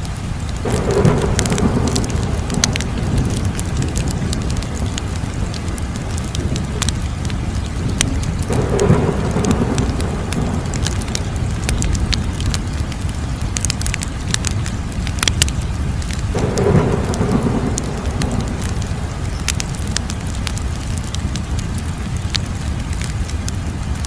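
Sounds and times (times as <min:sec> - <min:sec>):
fire crackling and popping: 0:00.0 - 0:24.0
low rumble: 0:00.6 - 0:23.1.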